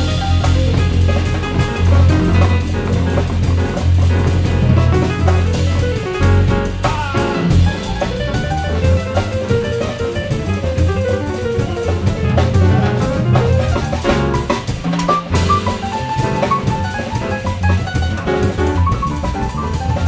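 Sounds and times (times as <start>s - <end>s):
grand piano: 0.0s - 20.0s
walking double bass: 0.0s - 20.0s.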